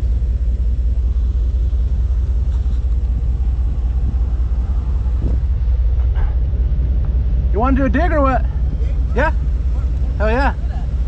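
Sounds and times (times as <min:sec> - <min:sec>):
pickup engine low rumble: 0:00.0 - 0:11.0.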